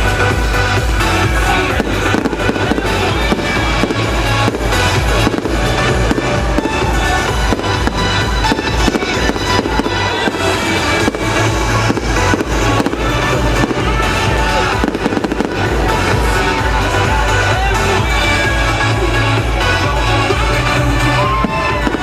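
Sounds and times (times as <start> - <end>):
fireworks bangs and crackles: 0.0 - 22.0
loud music with bass beat: 0.0 - 22.0.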